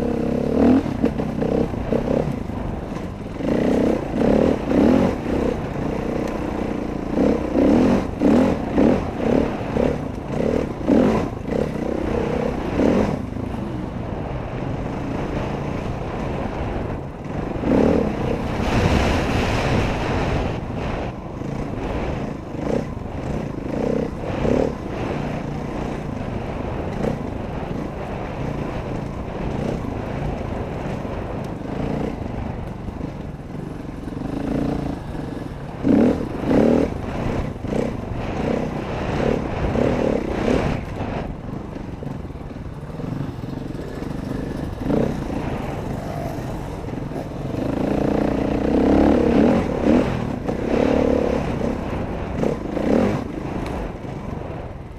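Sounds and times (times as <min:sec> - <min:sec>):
dirt bike engine revving: 0:00.0 - 0:54.6
wind noise: 0:00.0 - 0:54.9.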